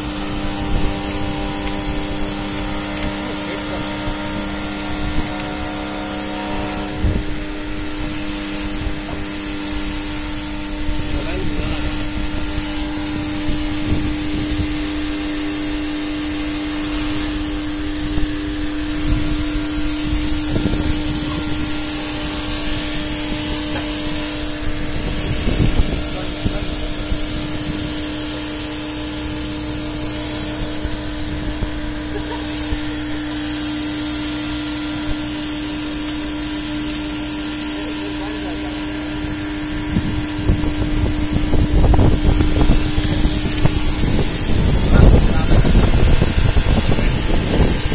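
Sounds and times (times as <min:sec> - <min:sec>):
pump machinery humming: 0:00.0 - 0:47.9
water jet hissing onto roof: 0:00.0 - 0:47.9.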